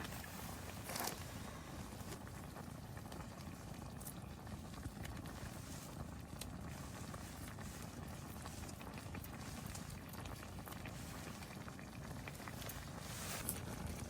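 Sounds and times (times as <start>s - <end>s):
gas stove rumble: 0.0s - 14.0s
pot simmering and bubbling: 0.0s - 14.0s.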